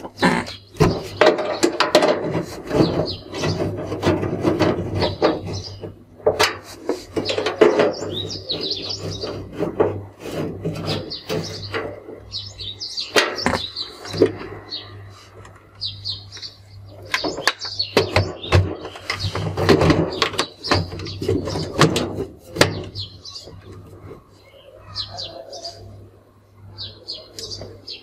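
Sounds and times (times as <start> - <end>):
plastic and metal scraping and knocking: 0.0 - 14.7, 15.4 - 24.4.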